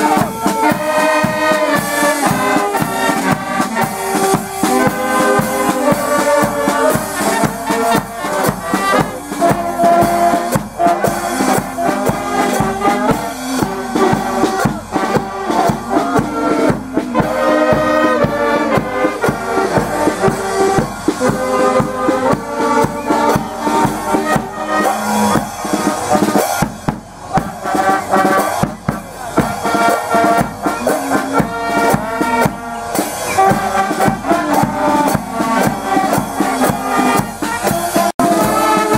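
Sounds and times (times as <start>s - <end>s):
drum kit beat: 0.0s - 38.9s
horns playing a melody: 0.0s - 38.9s.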